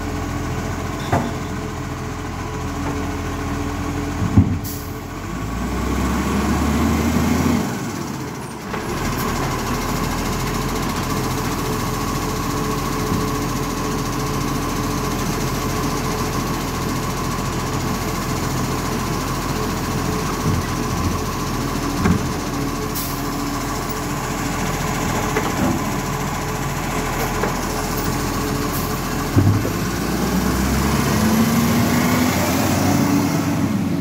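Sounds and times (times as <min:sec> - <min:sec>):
garbage truck diesel engine: 0:00.0 - 0:34.0.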